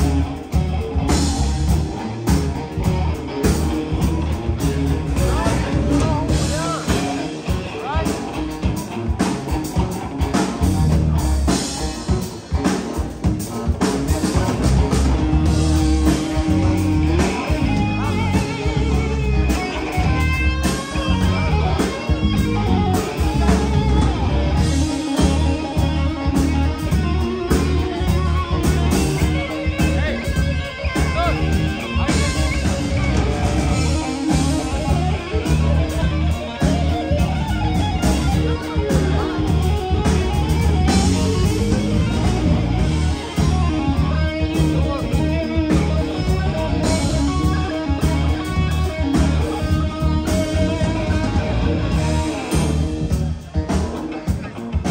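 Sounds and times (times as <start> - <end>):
rock band playing instrumental: 0.0 - 54.9.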